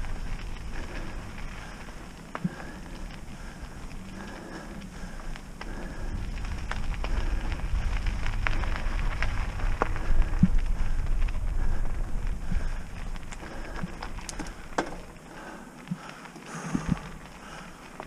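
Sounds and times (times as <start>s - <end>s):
bike clicks and rattles: 0.0s - 18.0s
wind rumble on microphone: 0.0s - 18.0s.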